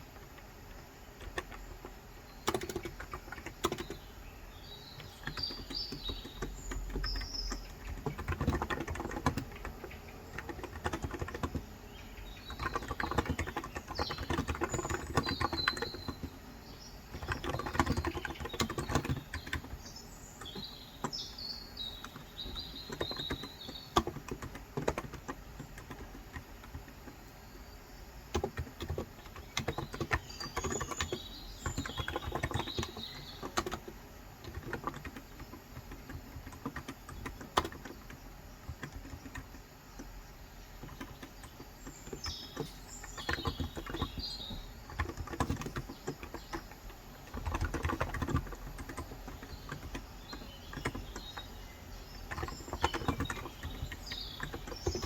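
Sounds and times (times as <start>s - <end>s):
keyboard typing: 0.0s - 4.2s, 4.9s - 27.4s, 28.3s - 55.0s
birds chirping: 0.0s - 55.0s.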